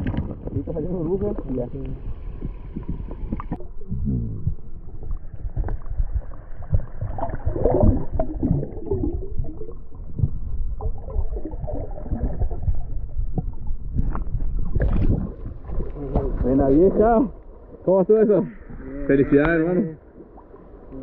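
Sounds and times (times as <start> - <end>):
low rumble: 0.0 - 21.0
muffled water gurgling underwater: 0.0 - 21.0.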